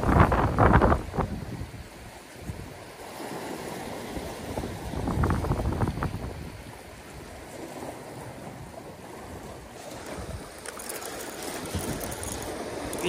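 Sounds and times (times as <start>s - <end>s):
sea waves washing over rocks: 0.0s - 13.0s
wind on microphone: 0.0s - 13.0s.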